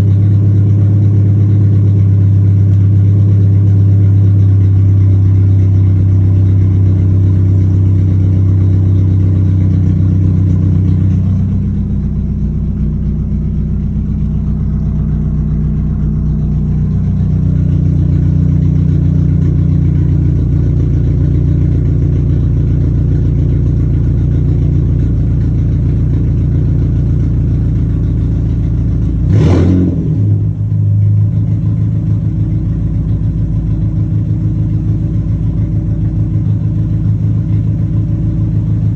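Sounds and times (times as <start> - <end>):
car engine idling loud: 0.0 - 38.9
engine rev: 0.0 - 38.9.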